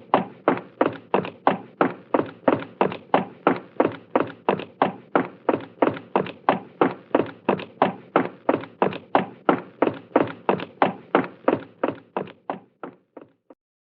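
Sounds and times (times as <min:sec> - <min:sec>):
quick footsteps: 0:00.0 - 0:13.6.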